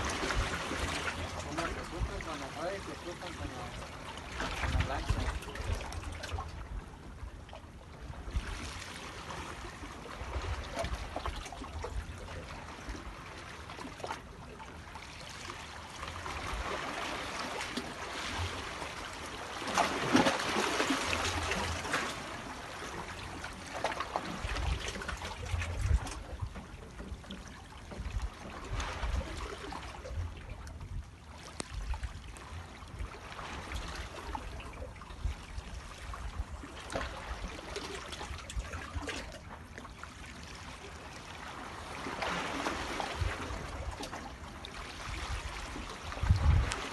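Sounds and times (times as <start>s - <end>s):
water trickling and splashing: 0.0s - 46.9s.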